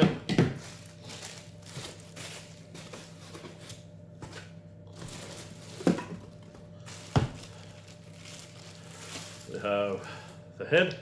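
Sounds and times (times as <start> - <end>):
steady low hum: 0.0 - 11.0
rustling of packaging: 0.5 - 10.4.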